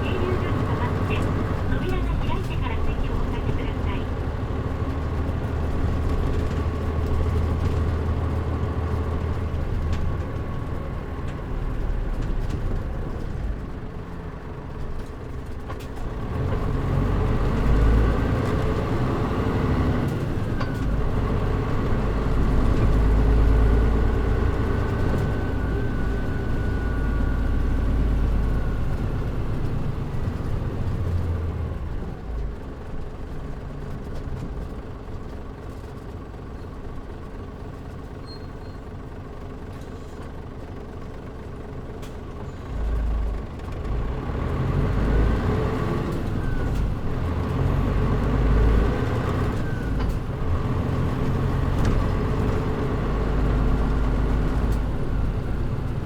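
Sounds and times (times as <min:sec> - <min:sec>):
bus diesel engine running: 0:00.0 - 0:56.0
faint drivetrain whine: 0:00.0 - 0:56.0.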